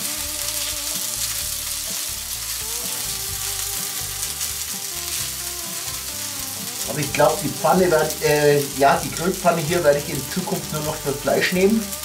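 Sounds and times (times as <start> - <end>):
rice sizzling in a grill pan: 0.0 - 12.0.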